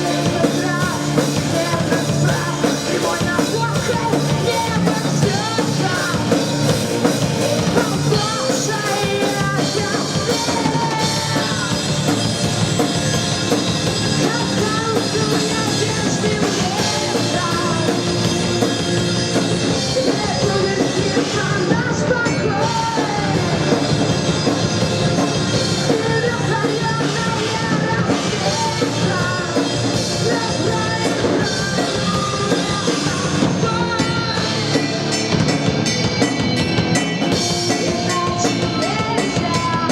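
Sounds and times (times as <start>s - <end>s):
person singing: 0.0s - 24.6s, 25.2s - 35.6s, 37.0s - 39.9s
live rock band playing: 0.0s - 39.9s.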